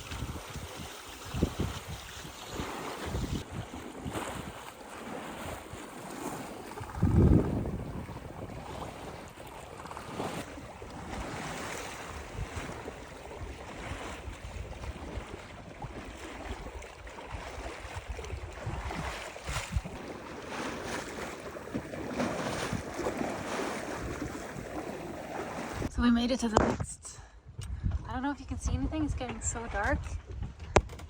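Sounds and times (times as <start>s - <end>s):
water splashing along boat hull: 0.0s - 25.9s, 28.7s - 31.0s
wind buffeting microphone: 0.0s - 31.0s.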